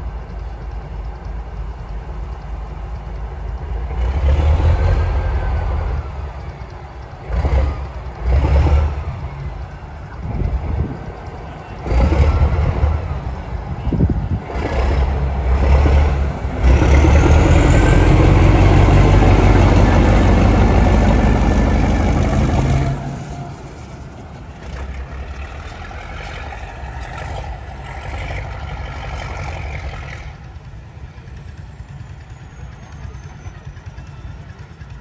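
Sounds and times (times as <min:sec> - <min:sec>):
diesel locomotive engine: 0:00.0 - 0:35.0.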